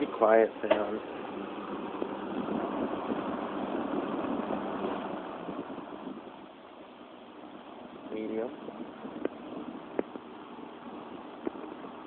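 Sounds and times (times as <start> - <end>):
electric box fan running: 0.0 - 12.0.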